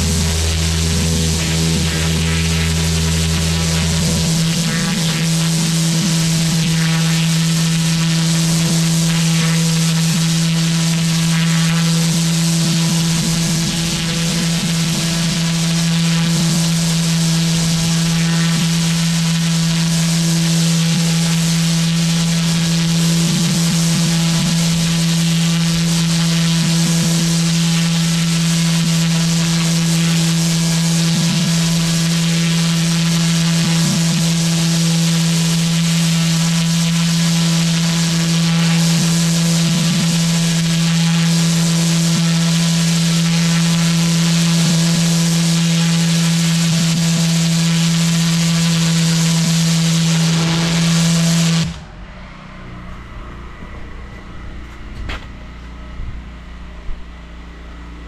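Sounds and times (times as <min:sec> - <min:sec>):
pressure washer hum: 0:00.0 - 0:58.0.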